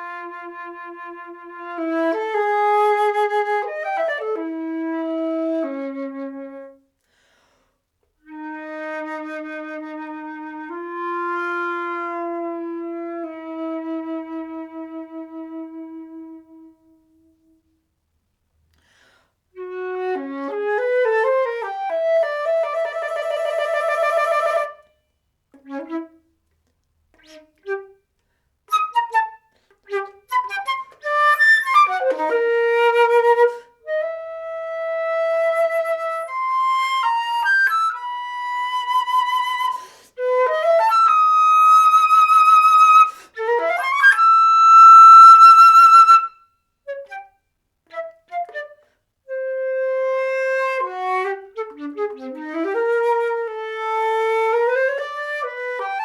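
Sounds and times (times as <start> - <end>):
solo flute playing: 0.0 - 6.8, 8.2 - 17.8, 19.6 - 26.4, 27.2 - 28.1, 28.7 - 56.0.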